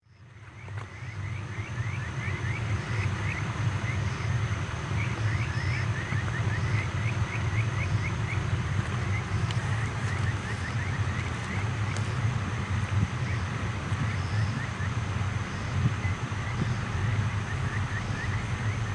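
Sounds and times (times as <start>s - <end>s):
insects chirping: 0.1s - 18.9s
steady low rumble: 0.1s - 18.9s.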